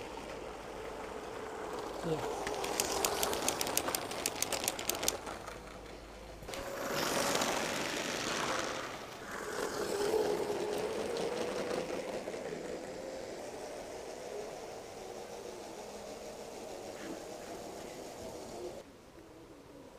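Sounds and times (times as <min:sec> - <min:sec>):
toy train motor whine: 0:00.0 - 0:18.8
toy train wheels clicking on track: 0:00.0 - 0:18.8
toy train wheels rumbling: 0:00.0 - 0:18.8.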